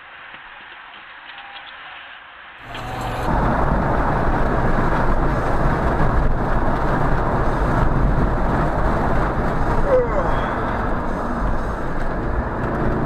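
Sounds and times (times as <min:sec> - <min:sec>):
car road and wind noise: 0:02.5 - 0:13.0.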